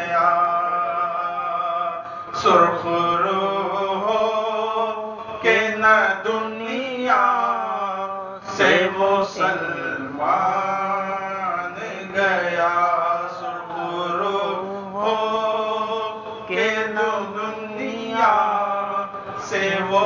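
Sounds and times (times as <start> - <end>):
man singing into a microphone: 0.0 - 20.0
steady low hum: 0.0 - 20.0.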